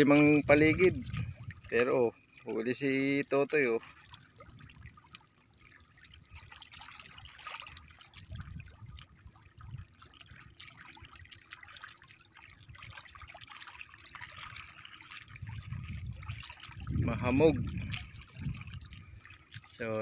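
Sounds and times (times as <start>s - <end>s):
sea waves lapping among rocks: 0.0s - 20.0s.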